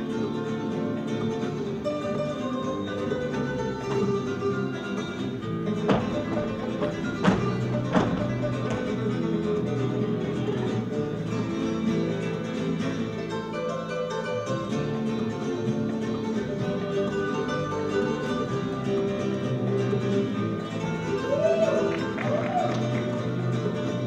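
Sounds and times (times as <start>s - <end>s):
latin dance music with guitar: 0.0s - 24.0s.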